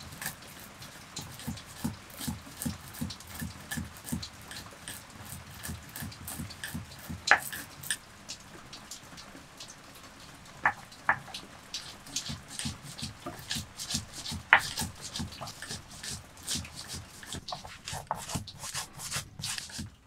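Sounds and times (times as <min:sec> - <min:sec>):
pestle pounding in mortar: 0:01.2 - 0:08.0, 0:10.7 - 0:20.0.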